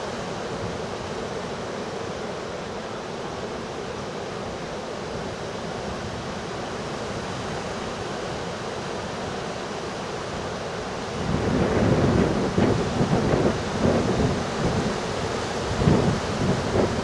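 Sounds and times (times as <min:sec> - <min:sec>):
heavy surf: 0:00.0 - 0:17.0
wind: 0:00.0 - 0:17.0.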